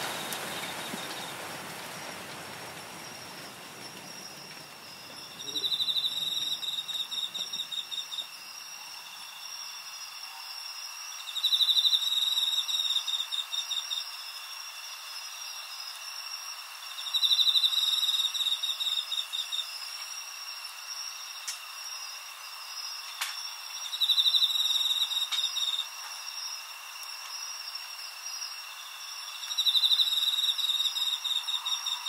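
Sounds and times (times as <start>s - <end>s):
cricket trilling chirps: 0.0s - 32.0s
insects trilling: 0.0s - 32.0s.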